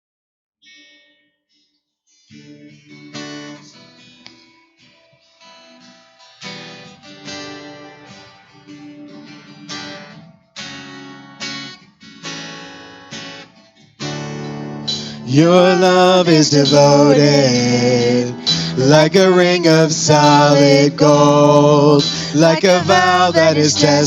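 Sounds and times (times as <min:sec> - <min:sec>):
acoustic guitar strumming: 0:02.1 - 0:24.0.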